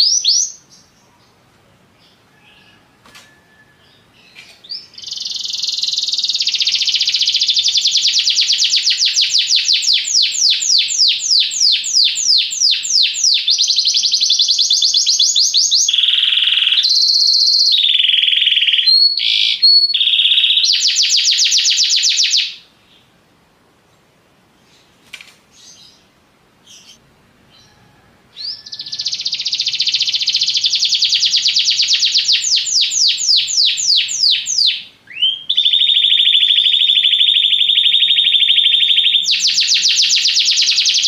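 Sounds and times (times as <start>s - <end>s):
canary singing trills: 0.0s - 1.4s, 2.0s - 23.1s, 25.6s - 41.0s.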